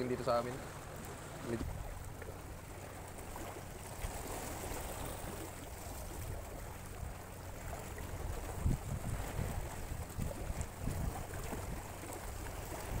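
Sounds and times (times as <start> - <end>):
outdoor water noise: 0.0 - 13.0
wind rumble on microphone: 1.1 - 13.0.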